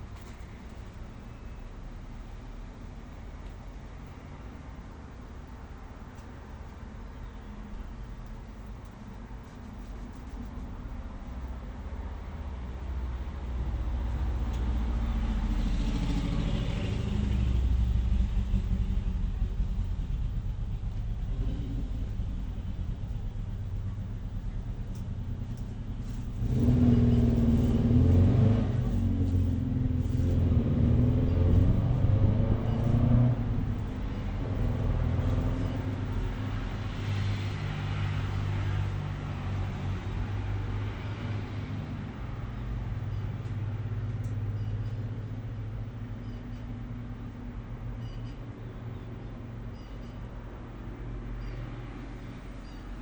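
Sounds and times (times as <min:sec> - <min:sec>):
vehicle passing: 0:00.0 - 0:48.0
road traffic rumble: 0:00.0 - 0:53.0.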